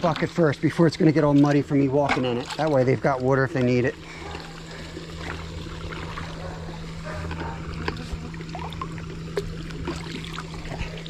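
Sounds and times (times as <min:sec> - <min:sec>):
creek water trickling: 0:00.0 - 0:11.0.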